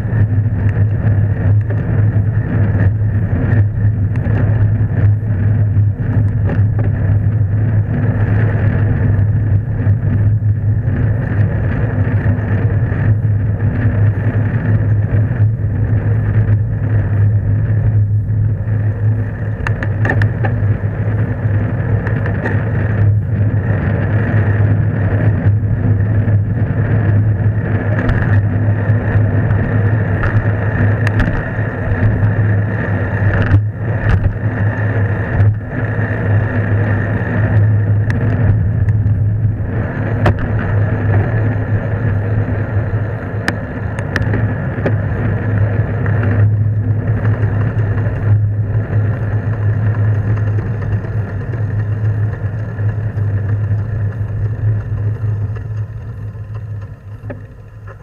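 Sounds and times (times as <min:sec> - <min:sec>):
bicycle rumbling along road: 0:00.0 - 0:58.0.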